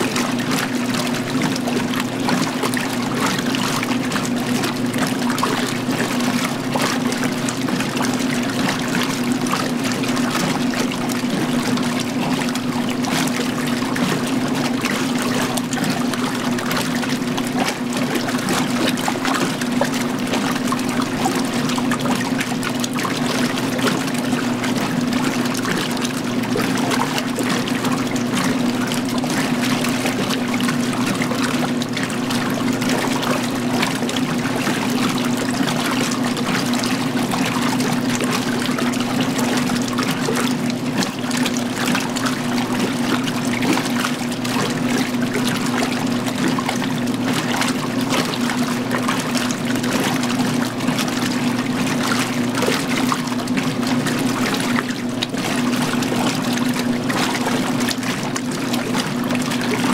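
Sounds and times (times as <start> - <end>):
washer motor hum: 0.0 - 59.9
washer water sloshing: 0.0 - 59.9.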